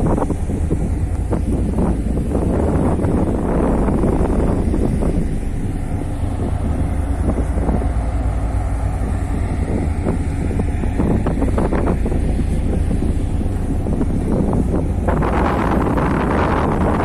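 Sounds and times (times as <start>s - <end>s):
ferry engine rumble: 0.0s - 17.0s
wind buffeting microphone: 0.0s - 17.0s.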